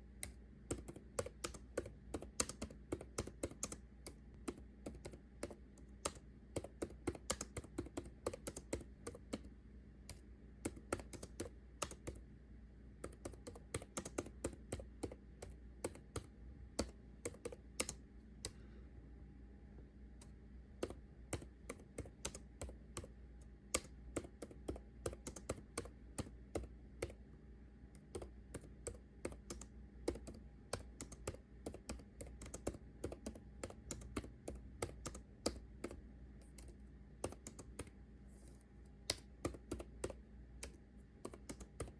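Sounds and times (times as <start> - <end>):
computer keyboard typing: 0.2 - 9.5, 10.1 - 12.2, 13.0 - 18.6, 20.8 - 23.1, 23.7 - 27.2, 28.0 - 38.0, 39.1 - 41.9.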